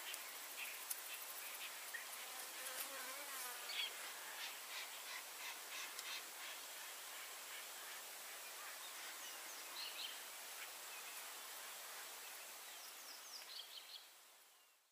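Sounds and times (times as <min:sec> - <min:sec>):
steady bush hiss: 0:00.0 - 0:14.9.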